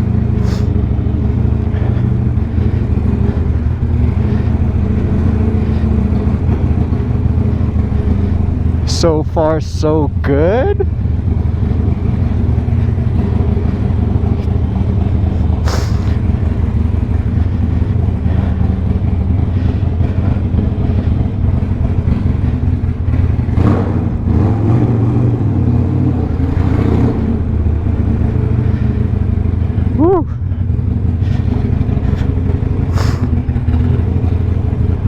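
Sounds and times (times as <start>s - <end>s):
motorcycle engine deep rumble: 0.0s - 35.0s.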